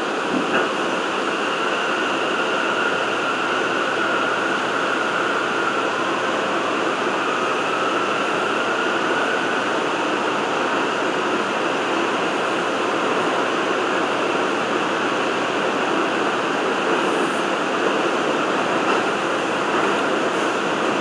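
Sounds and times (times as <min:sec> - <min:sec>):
subway car wheel and rail noise: 0:00.0 - 0:21.0.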